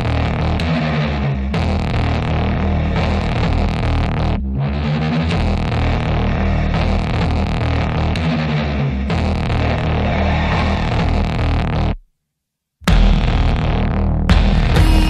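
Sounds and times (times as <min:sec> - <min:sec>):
loud music with heavy bass: 0:00.0 - 0:12.0, 0:12.8 - 0:15.0.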